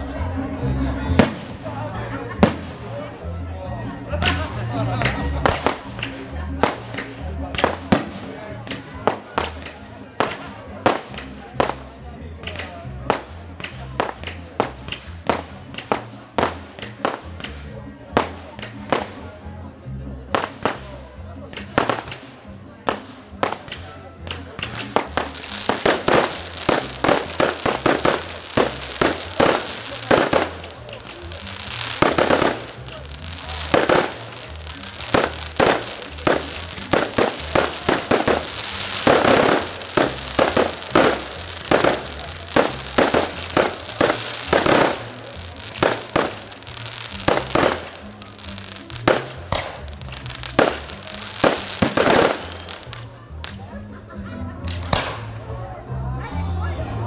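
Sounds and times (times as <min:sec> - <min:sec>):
fireworks bursting in sharp bangs: 0:01.2 - 0:01.6, 0:02.4 - 0:02.9, 0:05.0 - 0:11.8, 0:12.4 - 0:17.6, 0:18.2 - 0:19.2, 0:20.3 - 0:20.9, 0:21.5 - 0:53.0.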